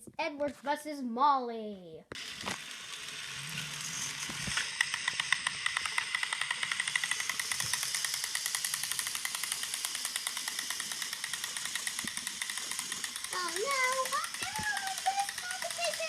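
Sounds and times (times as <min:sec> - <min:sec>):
toy train motor whirring and clicking: 0:02.1 - 0:16.0.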